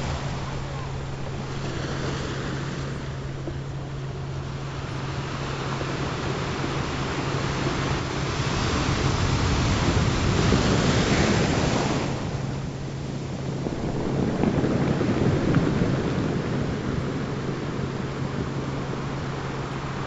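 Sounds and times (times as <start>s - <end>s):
low steady tone hum: 0.0s - 20.0s
ocean waves: 0.0s - 20.0s.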